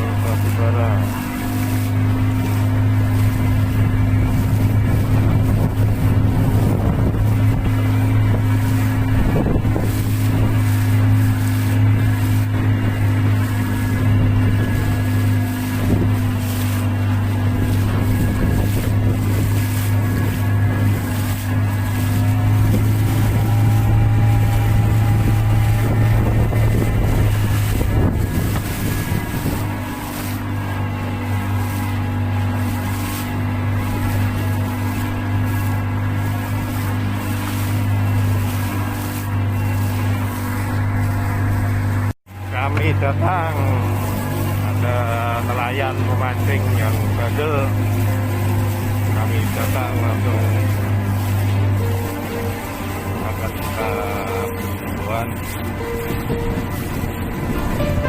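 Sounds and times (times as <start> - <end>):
boat engine droning: 0.0 - 58.0
water noise: 0.0 - 58.0
wind: 0.0 - 58.0.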